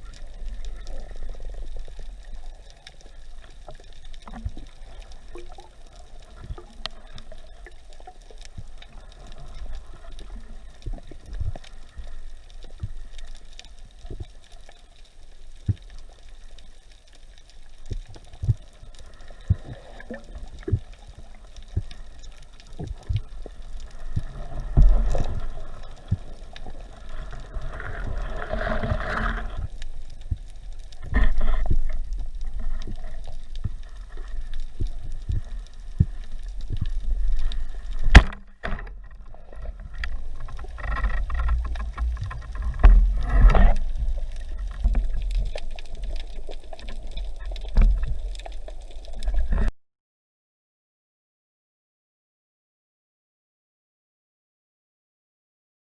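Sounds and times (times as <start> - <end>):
muffled underwater rumble: 0.0 - 49.7.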